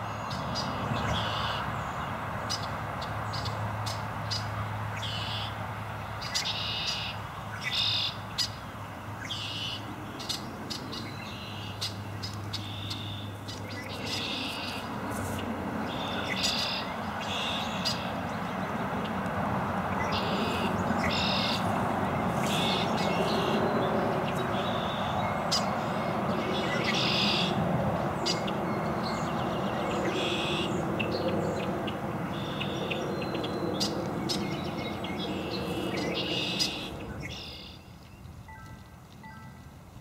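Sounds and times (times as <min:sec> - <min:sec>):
birds chirping: 0:06.1 - 0:19.2, 0:19.8 - 0:39.6.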